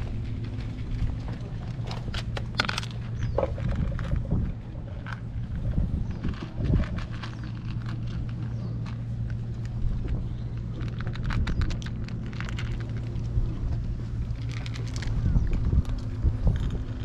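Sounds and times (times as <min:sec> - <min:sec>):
cats crunching dry food: 0:00.0 - 0:17.0
low hum: 0:00.0 - 0:17.0.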